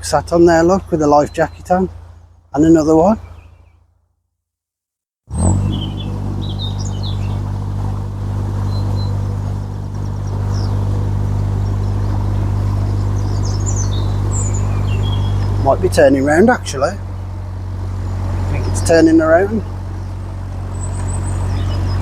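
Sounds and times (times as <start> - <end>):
small birds chirping: 0.0 - 3.8, 5.4 - 22.0
boat engine humming: 0.0 - 3.9, 5.3 - 22.0.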